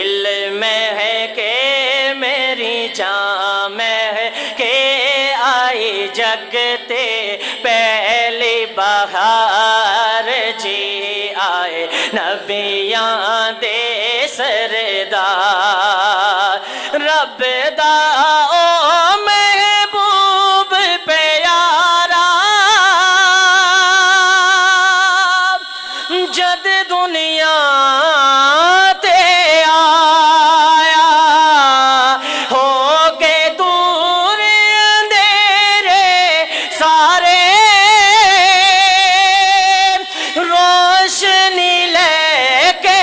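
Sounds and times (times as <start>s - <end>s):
man singing into a microphone: 0.0s - 43.0s.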